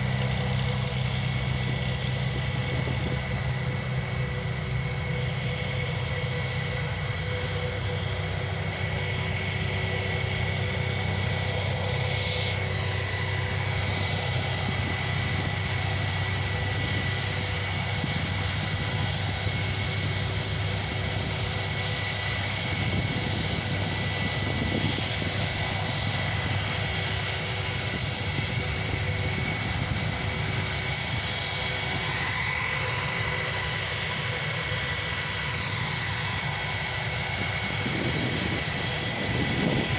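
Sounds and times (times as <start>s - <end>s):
aircraft engines droning: 0.0s - 39.9s.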